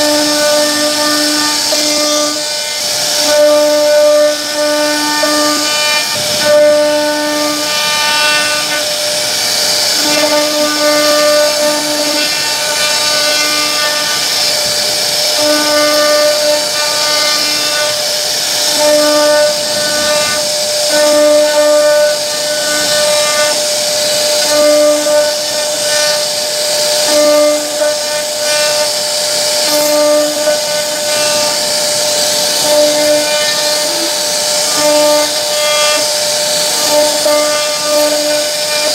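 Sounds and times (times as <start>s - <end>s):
hiss of wood cutting: 0.0s - 38.9s
wood router spindle whining: 0.0s - 38.9s.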